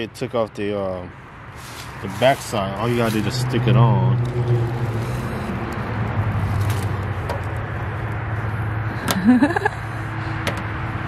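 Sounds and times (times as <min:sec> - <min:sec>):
low vehicle hum: 0:00.0 - 0:11.0.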